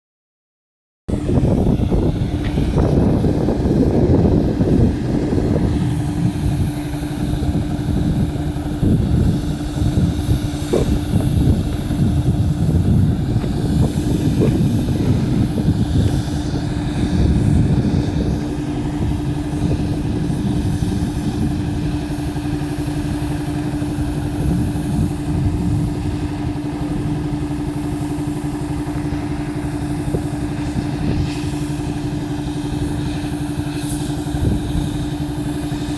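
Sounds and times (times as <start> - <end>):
machine engine droning: 1.1 - 35.9.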